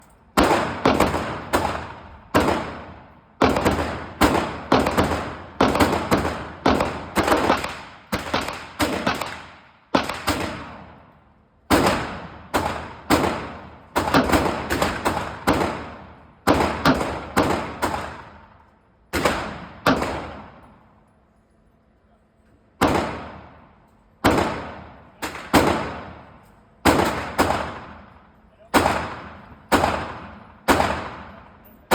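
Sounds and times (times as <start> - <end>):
gunshots with ringing echo: 0.4 - 11.1, 11.7 - 18.5, 19.1 - 20.7, 22.8 - 31.9.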